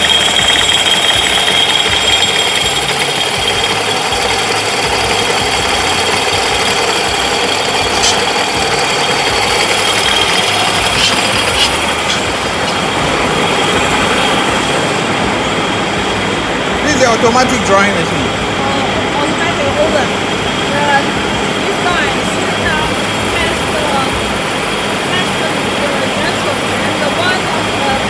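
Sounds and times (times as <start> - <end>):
factory machinery din: 0.0 - 28.0
high machine whine: 0.0 - 28.0.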